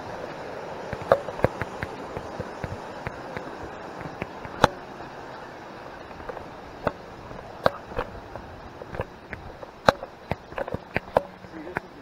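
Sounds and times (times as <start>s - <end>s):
steady background rush: 0.0s - 12.0s.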